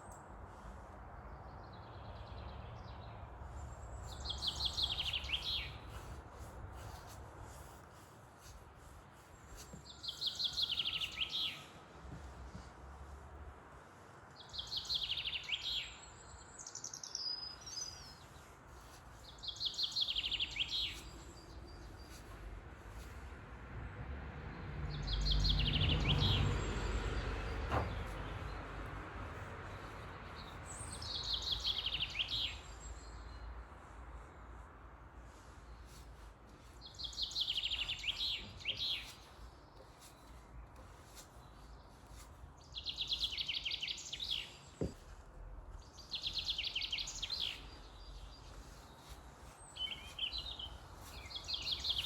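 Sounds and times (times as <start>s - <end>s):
songbird singing: 1.2s - 6.4s, 9.2s - 13.2s, 13.8s - 23.4s, 24.9s - 34.5s, 35.2s - 52.0s.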